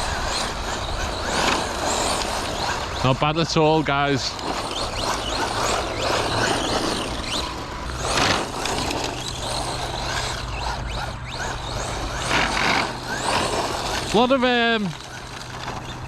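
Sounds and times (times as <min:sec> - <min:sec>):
rc truck motor whining: 0:00.0 - 0:16.0.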